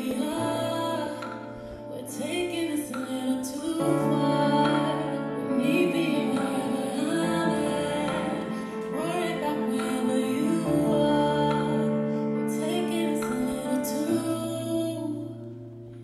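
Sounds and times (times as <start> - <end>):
woman singing: 0.0 - 15.7.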